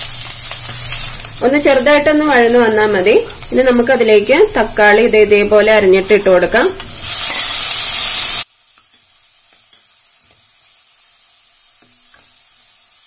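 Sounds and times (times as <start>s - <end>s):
loud sizzling in hot oil: 0.0s - 13.0s.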